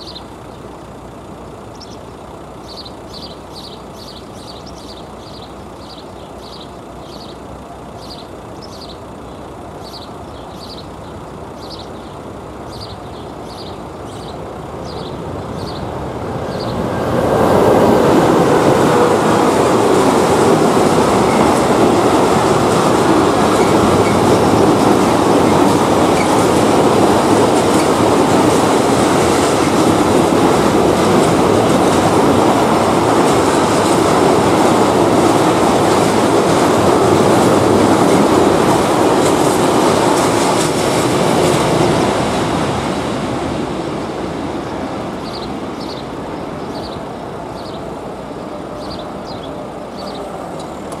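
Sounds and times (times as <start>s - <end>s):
freight train wheels clattering: 0.0s - 51.0s.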